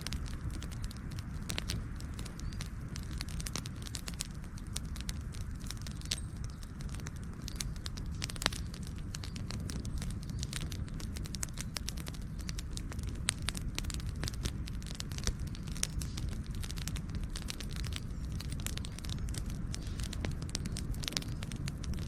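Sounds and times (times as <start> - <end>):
campfire crackling and popping: 0.0 - 22.0
low fire rumble: 0.0 - 22.0.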